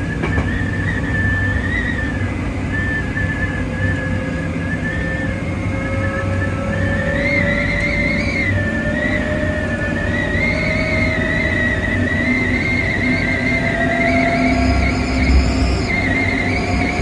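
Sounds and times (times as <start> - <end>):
electric train motor whine: 0.0 - 17.0
high wavering squeal: 0.0 - 17.0
train wheels rumbling: 0.0 - 17.0.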